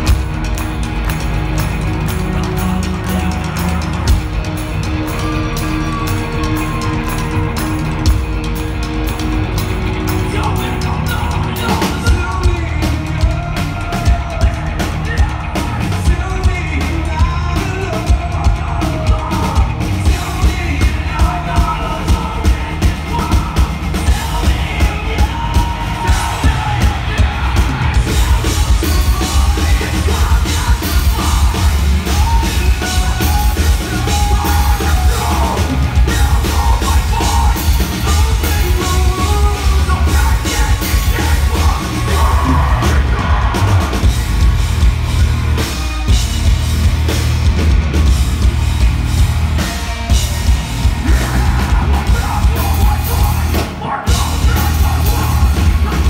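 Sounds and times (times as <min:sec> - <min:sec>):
live heavy metal band: 0:00.0 - 0:56.0
pounding drums: 0:00.0 - 0:56.0.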